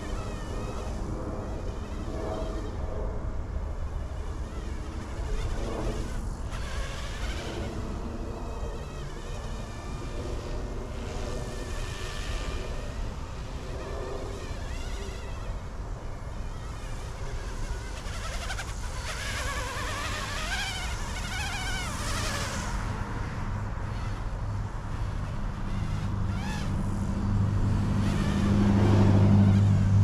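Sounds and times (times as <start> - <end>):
rc helicopter rotor whine: 0.0 - 30.0.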